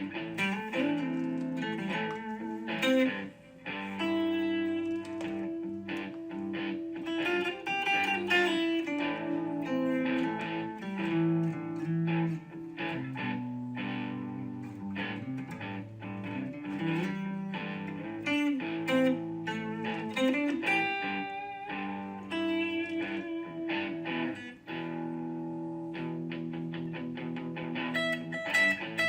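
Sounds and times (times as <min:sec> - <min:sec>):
plucked guitar music: 0:00.0 - 0:29.0.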